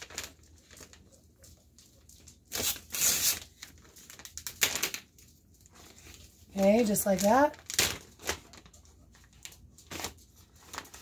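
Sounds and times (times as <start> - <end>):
plastic pouch tearing: 0.0 - 1.1, 2.2 - 6.2, 7.1 - 11.0
plastic crinkling: 0.0 - 11.0.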